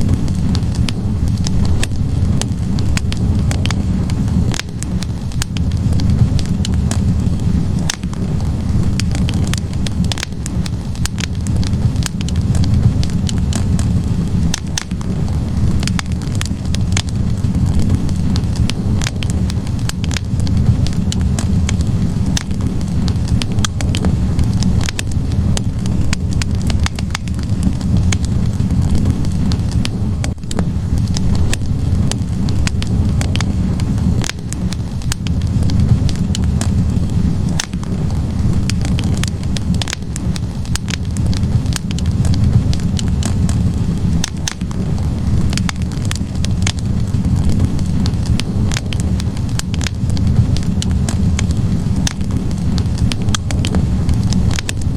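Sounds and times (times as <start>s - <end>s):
logs crackling and popping: 0.0s - 54.9s
low rumble of flames: 0.0s - 54.9s.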